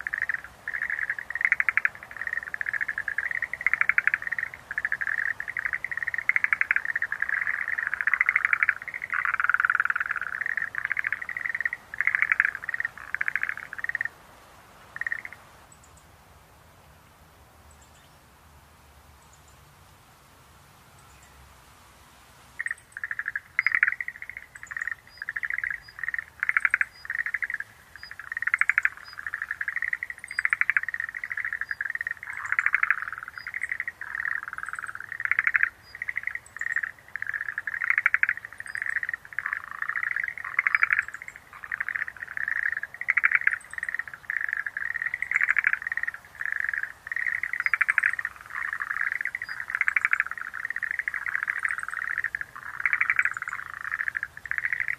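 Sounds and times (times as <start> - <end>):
tree frogs trilling in chorus: 0.0 - 14.2, 15.0 - 16.0, 22.6 - 54.9.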